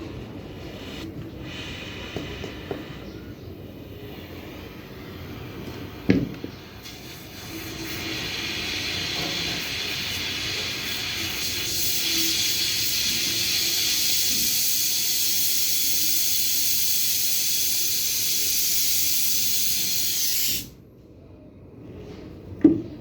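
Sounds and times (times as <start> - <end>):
torch flame hissing: 0.0 - 20.8.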